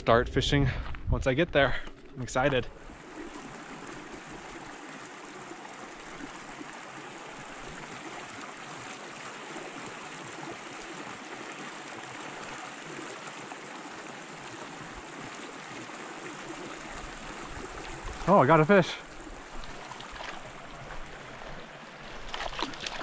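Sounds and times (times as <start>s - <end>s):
creek water trickling: 0.8s - 23.0s.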